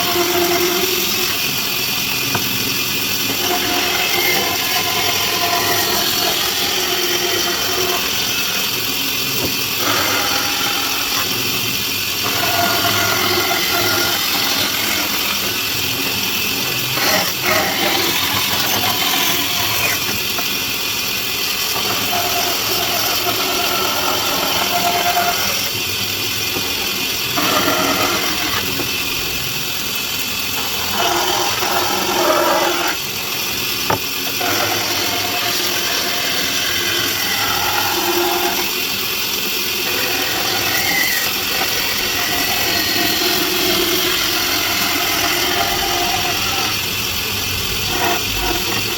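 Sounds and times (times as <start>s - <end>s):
motor-driven tool running: 0.0s - 48.9s.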